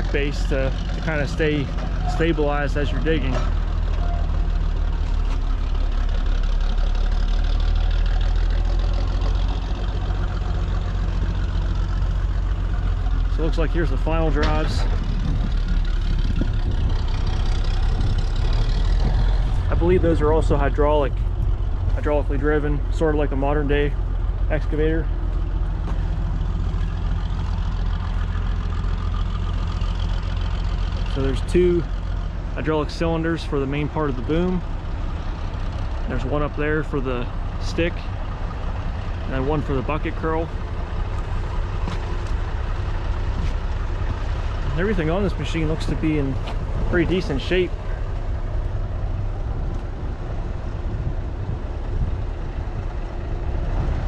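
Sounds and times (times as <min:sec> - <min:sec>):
large engine idling: 0:00.0 - 0:54.0.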